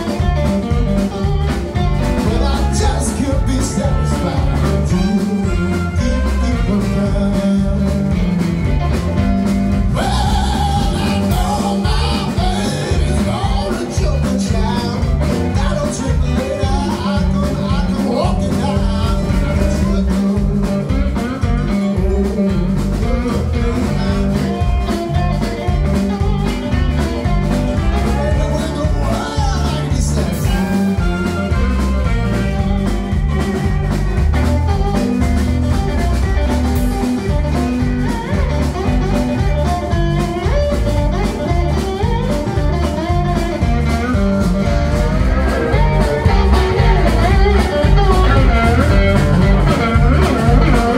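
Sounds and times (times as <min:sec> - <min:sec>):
live blues band playing: 0:00.0 - 0:50.9
steady drum beat: 0:00.0 - 0:50.9.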